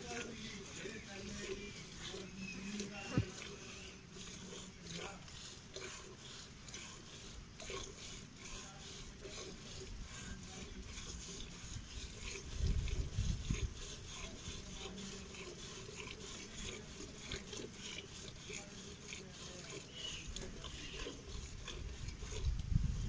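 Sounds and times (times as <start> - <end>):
milk squirting into steel pail: 0.0 - 23.0.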